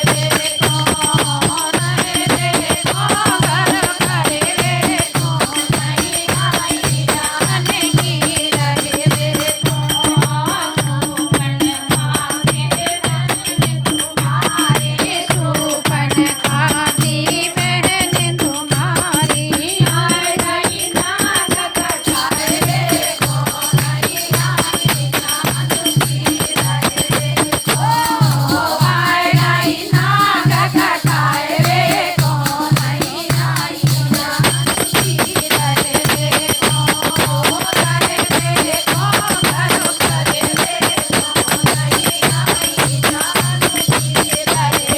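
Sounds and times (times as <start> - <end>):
drum beat: 0.0 - 44.9
jingling rattle: 0.0 - 44.9
voices singing: 0.0 - 44.9.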